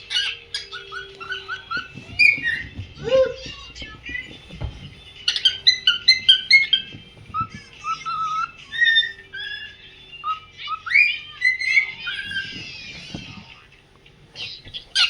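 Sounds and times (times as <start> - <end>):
cockatiel whistling: 0.0 - 15.0.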